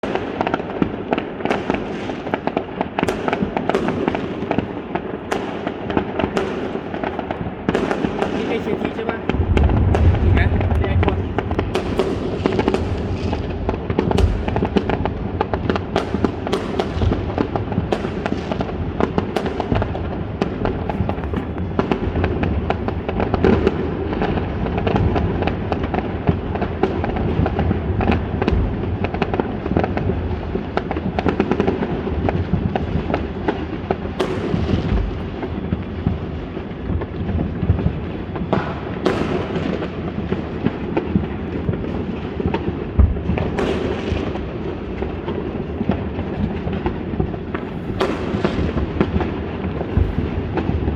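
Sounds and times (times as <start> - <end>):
fireworks bangs and crackling: 0.0 - 50.9
loud single firework bangs: 0.0 - 50.9.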